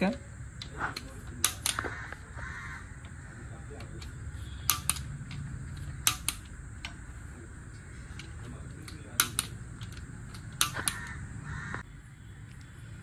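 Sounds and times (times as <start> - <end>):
torque wrench clicking: 0.6 - 11.8.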